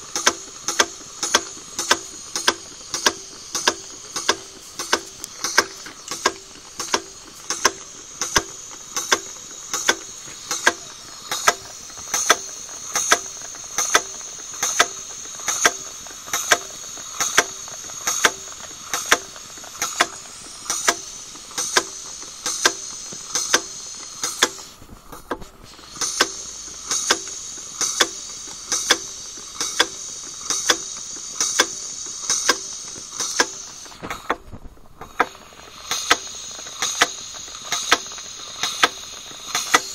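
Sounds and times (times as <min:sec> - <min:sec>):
burner hissing: 0:00.0 - 0:39.9
sharp mechanical clicks: 0:00.0 - 0:39.9.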